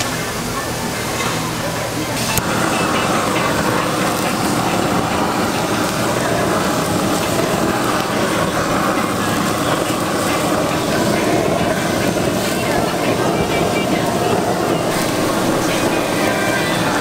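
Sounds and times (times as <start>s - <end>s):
gas torch roaring hiss: 0.0s - 17.0s
meat patties sizzling on griddle: 0.8s - 17.0s.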